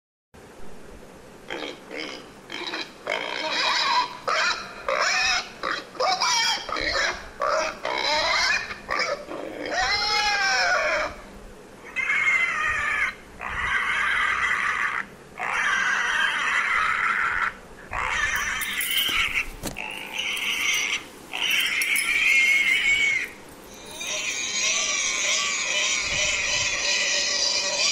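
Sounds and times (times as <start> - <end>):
pig calling: 1.5 - 27.9.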